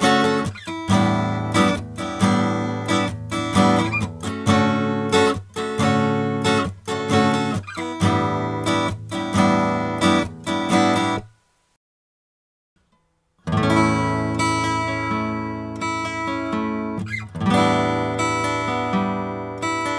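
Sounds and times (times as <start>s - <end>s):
acoustic guitar strumming: 0.0s - 11.4s, 12.8s - 19.9s.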